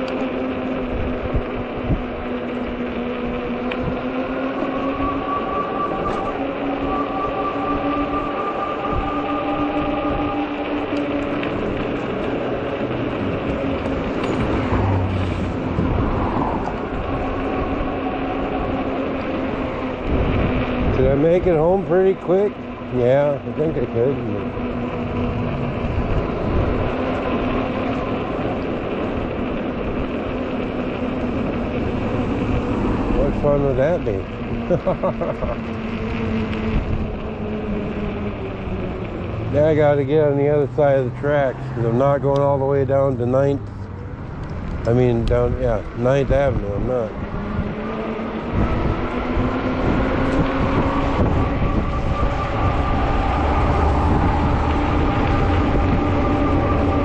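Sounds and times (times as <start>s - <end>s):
e-bike motor and tyre whine: 0.0s - 57.0s
wind rumble on microphone: 0.0s - 57.0s.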